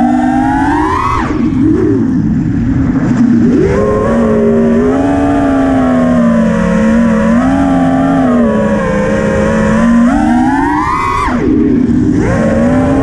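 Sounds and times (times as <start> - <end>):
drone motors whining: 0.0 - 13.0
wind noise: 0.0 - 13.0.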